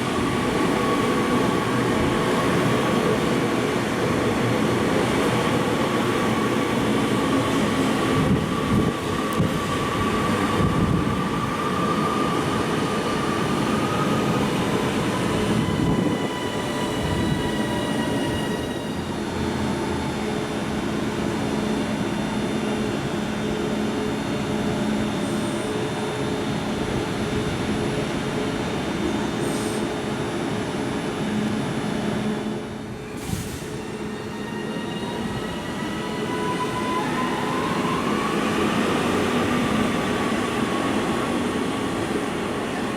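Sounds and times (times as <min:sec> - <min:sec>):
train high whine: 0:00.0 - 0:30.6, 0:31.2 - 0:42.9
train low hum: 0:00.0 - 0:42.9.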